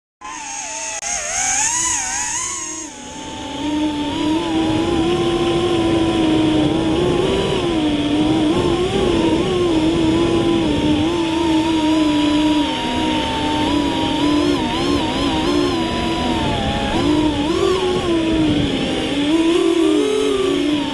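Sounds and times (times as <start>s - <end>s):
quadcopter propellers whining: 0.2s - 20.9s.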